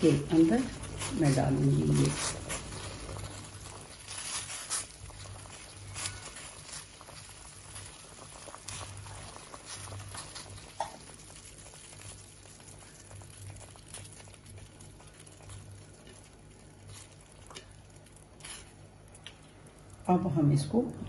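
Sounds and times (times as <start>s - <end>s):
water boiling and bubbling: 0.0s - 21.0s
small pops and crackles: 0.5s - 21.0s.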